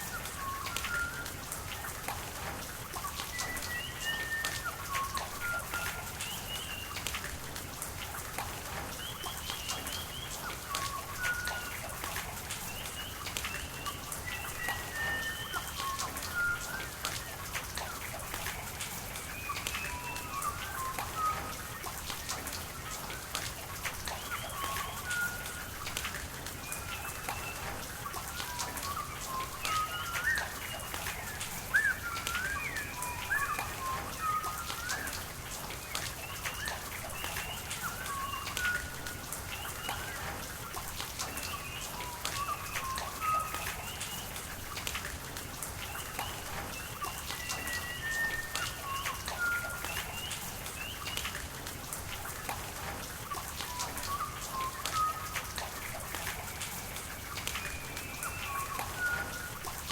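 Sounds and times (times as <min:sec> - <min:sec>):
rain falling: 0:00.0 - 0:59.9
running water: 0:00.0 - 0:59.9
small birds chirping: 0:08.4 - 0:59.9.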